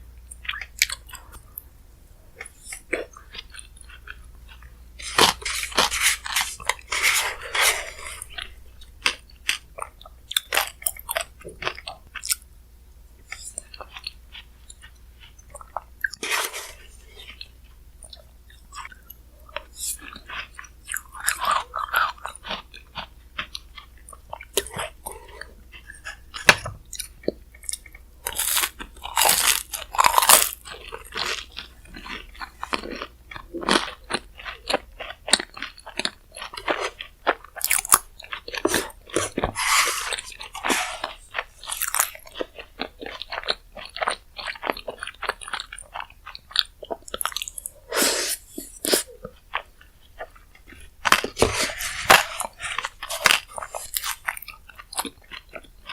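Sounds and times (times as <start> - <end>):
crunching and chewing: 0.2 - 1.7, 2.3 - 12.5, 13.2 - 55.9.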